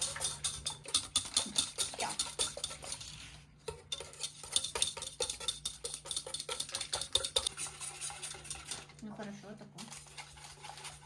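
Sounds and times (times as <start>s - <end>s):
utensil scraping a dish: 0.0s - 9.0s, 9.8s - 11.0s.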